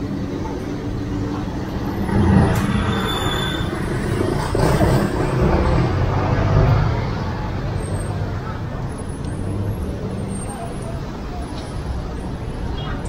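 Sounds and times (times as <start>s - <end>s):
cars and scooters passing: 0.0s - 13.0s.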